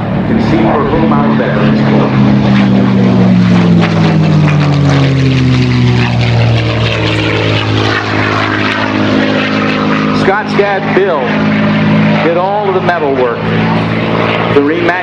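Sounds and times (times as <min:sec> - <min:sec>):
propeller plane engine passing: 0:00.0 - 0:15.0.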